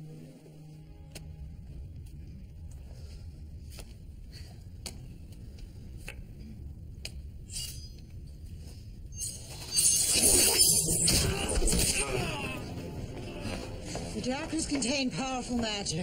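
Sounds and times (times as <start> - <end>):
low rumbling drone: 0.0 - 16.0.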